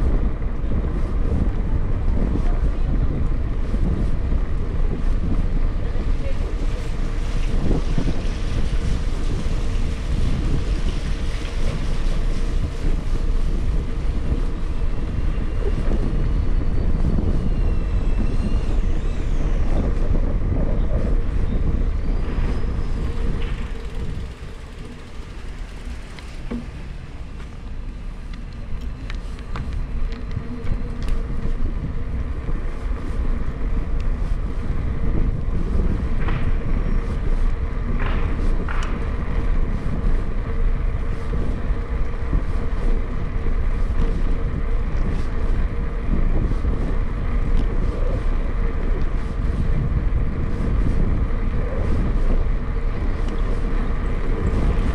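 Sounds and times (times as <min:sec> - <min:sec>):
bicycle road rumble: 0:00.0 - 0:54.9
wind on microphone: 0:00.0 - 0:54.9.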